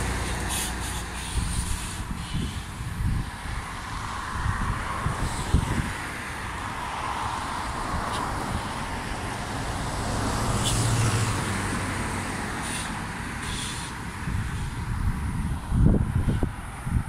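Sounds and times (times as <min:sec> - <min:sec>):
road traffic noise: 0:00.0 - 0:17.0
vehicle passing: 0:00.0 - 0:17.0.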